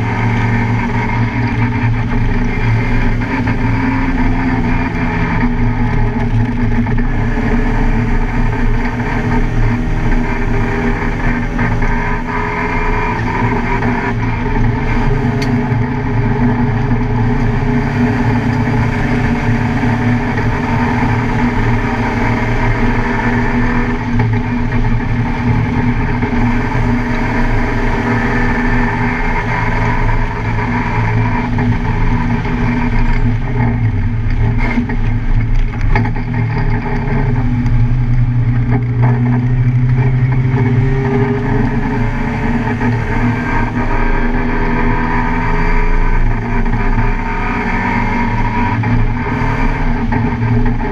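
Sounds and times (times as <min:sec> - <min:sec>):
car engine running hard: 0:00.0 - 0:50.9.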